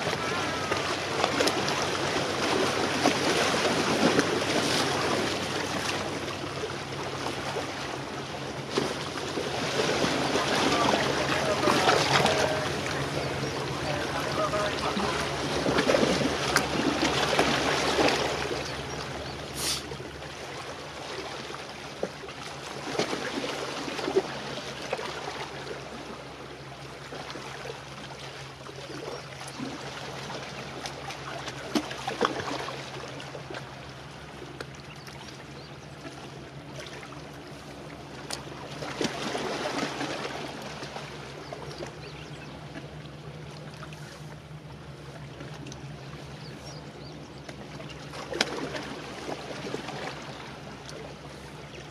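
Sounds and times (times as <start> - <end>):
small waves lapping at shore: 0.0 - 51.9.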